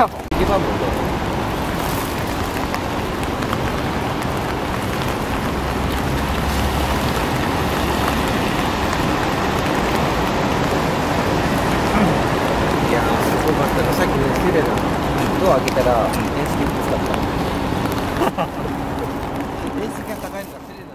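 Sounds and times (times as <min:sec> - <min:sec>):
rain on wet pavement: 0:00.0 - 0:20.9
road traffic rumble: 0:00.0 - 0:20.9.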